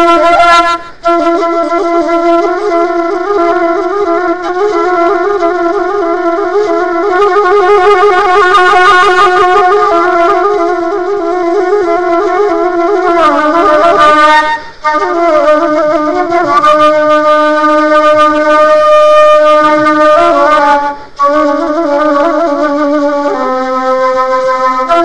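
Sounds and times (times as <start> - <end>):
slow wind instrument melody: 0.0 - 25.0.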